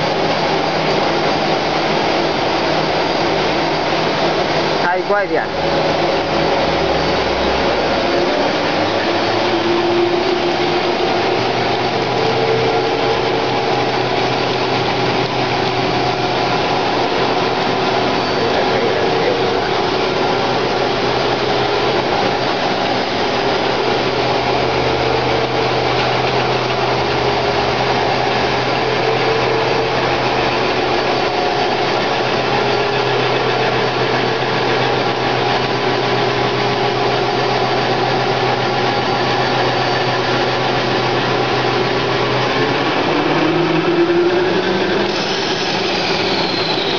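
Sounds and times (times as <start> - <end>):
plastic cutting machine humming: 0.0 - 46.9.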